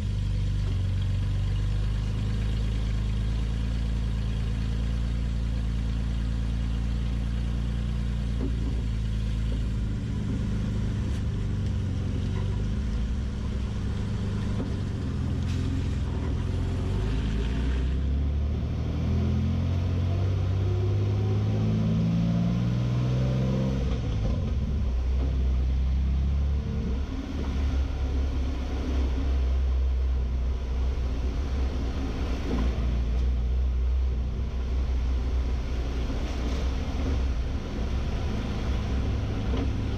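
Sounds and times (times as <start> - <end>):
car engine and exhaust rumbling: 0.0 - 39.9.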